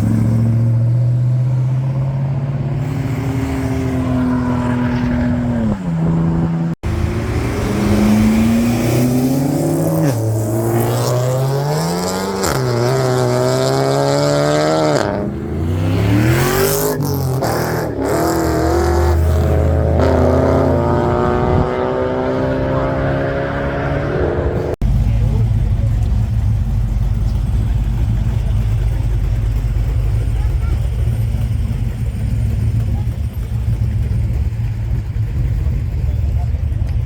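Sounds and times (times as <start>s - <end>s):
car engines accelerating: 0.0s - 37.0s.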